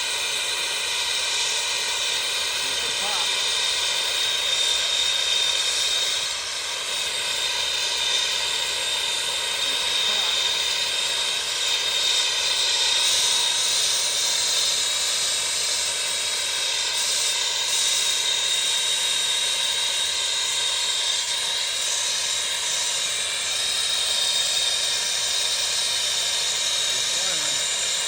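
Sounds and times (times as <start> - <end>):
gas torch hissing: 0.0 - 28.0.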